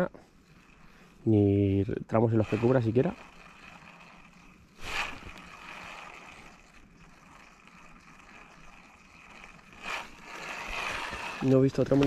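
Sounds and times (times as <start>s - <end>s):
river water: 0.0s - 12.0s
wind: 0.0s - 12.0s.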